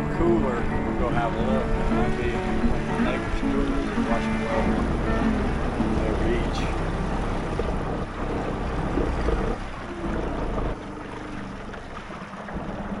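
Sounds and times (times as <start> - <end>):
boat hull moving through water: 0.0 - 13.0
outboard motor running: 0.0 - 13.0.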